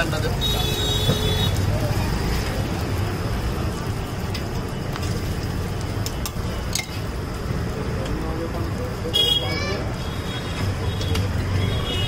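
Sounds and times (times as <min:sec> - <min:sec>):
batter sizzling on a griddle: 0:00.0 - 0:12.0
street traffic rumble: 0:00.0 - 0:12.0.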